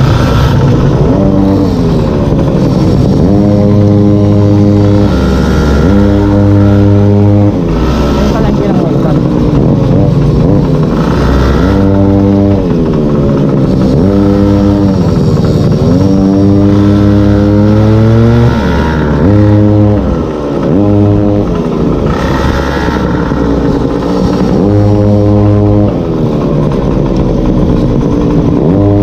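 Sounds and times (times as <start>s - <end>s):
small two-stroke engine revving: 0.0s - 29.0s.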